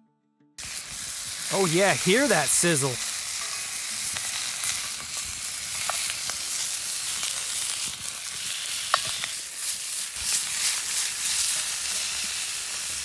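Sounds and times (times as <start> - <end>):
sausages sizzling in a skillet: 0.6 - 13.0.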